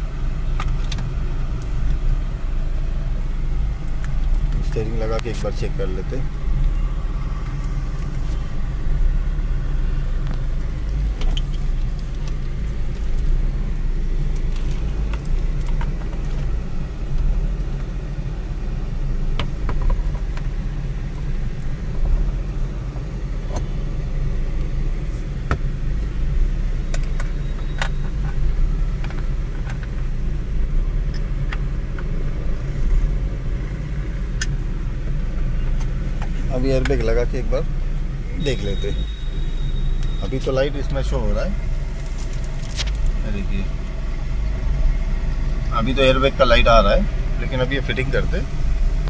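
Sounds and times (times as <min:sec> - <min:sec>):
steady low rumble: 0:00.0 - 0:49.0.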